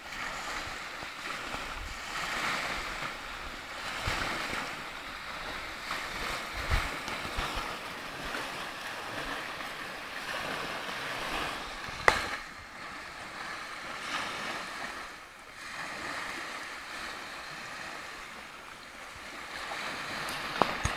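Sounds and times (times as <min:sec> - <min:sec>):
waves washing on pebble shore: 0:00.0 - 0:20.9.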